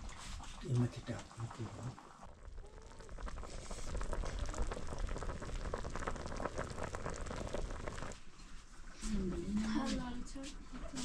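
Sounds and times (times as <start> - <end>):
food bubbling and crackling in a pan: 0.0 - 11.0.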